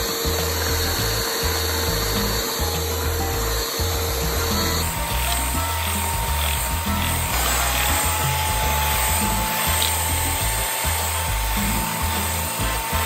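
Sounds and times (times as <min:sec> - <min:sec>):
background music: 0:00.0 - 0:13.0
electric hand mixer whirring: 0:00.0 - 0:13.0.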